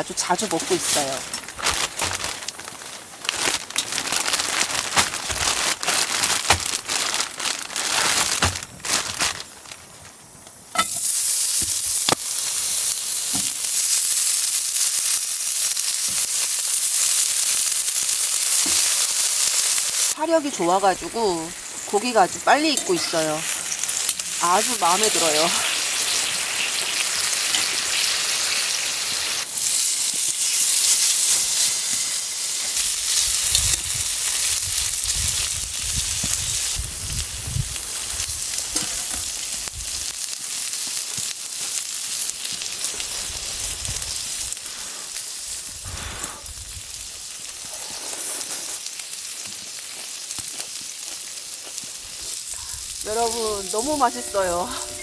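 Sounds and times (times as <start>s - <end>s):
meat sizzling over a fire: 0.0s - 55.0s.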